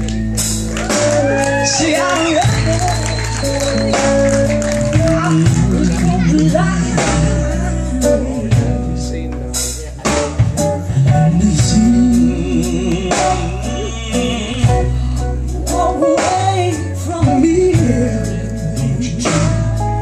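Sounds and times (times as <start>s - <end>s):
live blues band playing: 0.0s - 20.0s.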